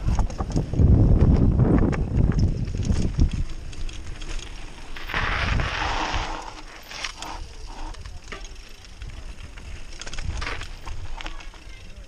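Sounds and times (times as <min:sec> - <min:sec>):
bike tyres on rough trail: 0:00.0 - 0:12.0.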